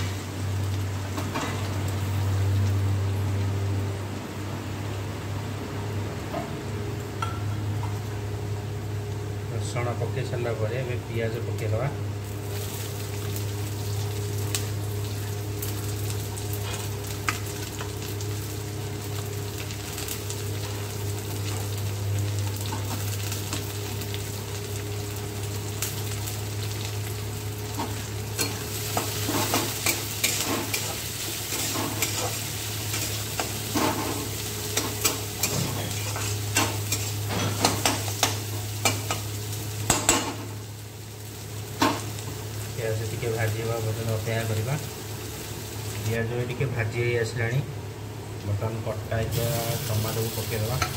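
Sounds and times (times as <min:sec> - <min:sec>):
onions sizzling in hot oil: 0:00.0 - 0:04.2, 0:06.7 - 0:50.9.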